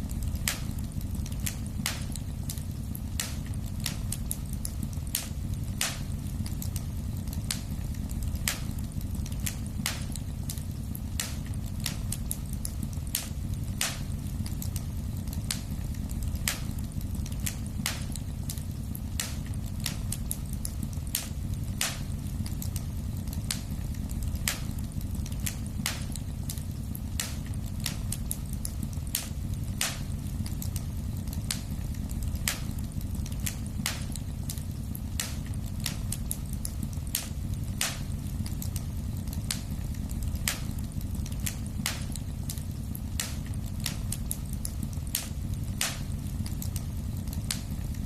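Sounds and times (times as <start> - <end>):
low rumble of burning fire: 0.0 - 48.0
wood fire crackling and popping: 0.0 - 48.0.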